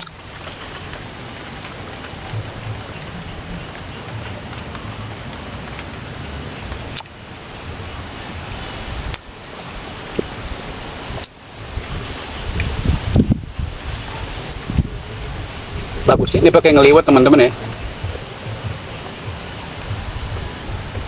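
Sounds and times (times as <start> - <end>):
light rain hissing: 0.0 - 21.0.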